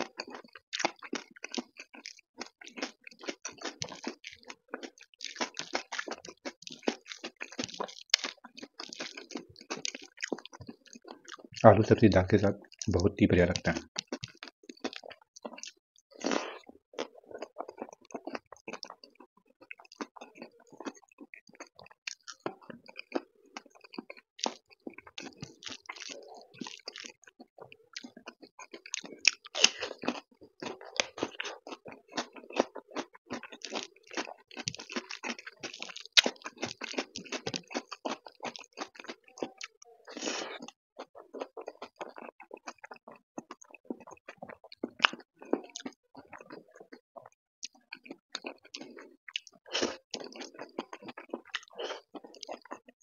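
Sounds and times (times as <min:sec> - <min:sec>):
wet chewing: 0:00.0 - 0:53.0.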